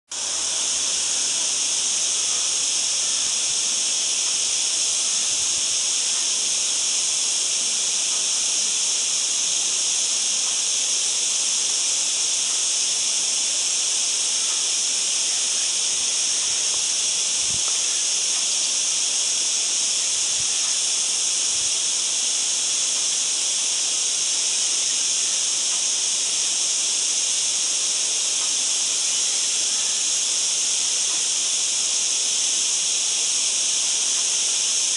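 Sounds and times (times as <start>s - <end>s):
high-pitched outdoor ambience hiss: 0.1s - 34.9s.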